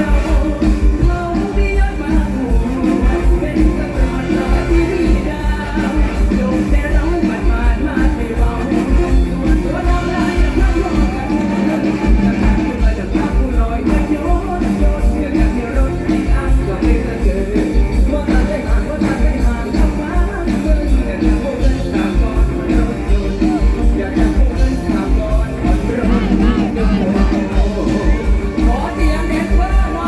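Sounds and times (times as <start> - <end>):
heavy drum beat: 0.0 - 30.0
live band music: 0.0 - 30.0
person singing: 0.0 - 30.0.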